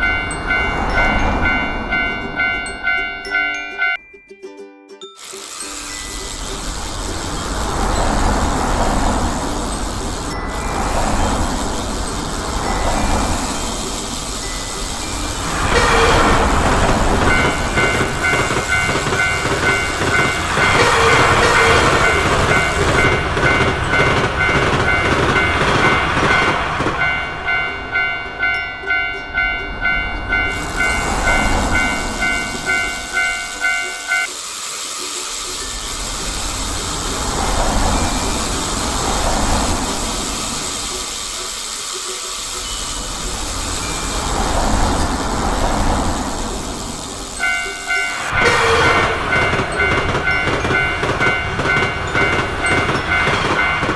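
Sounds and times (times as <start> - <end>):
train rumbling and clattering: 0.0 - 3.9, 5.5 - 34.7, 35.3 - 53.9
passing traffic noise: 0.0 - 4.0, 5.2 - 53.9
two-tone crossing warning bell: 0.0 - 53.9.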